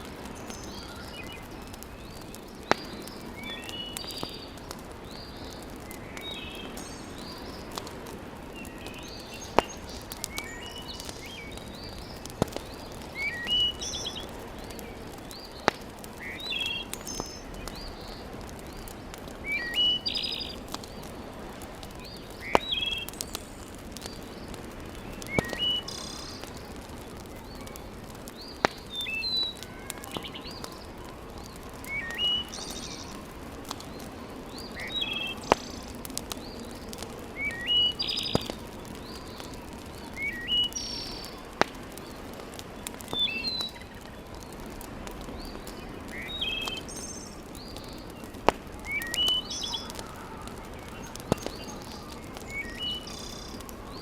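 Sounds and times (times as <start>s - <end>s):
birds chirping: 0.0s - 21.2s, 21.8s - 54.0s
wood fire popping: 0.0s - 54.0s.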